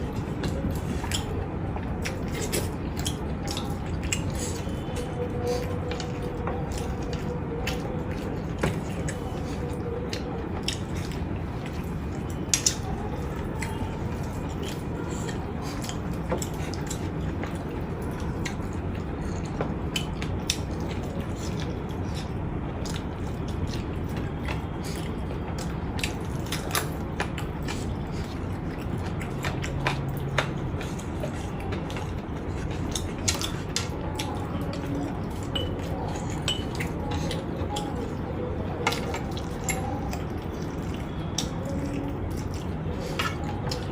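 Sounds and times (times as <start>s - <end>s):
person chewing: 0.0s - 43.9s.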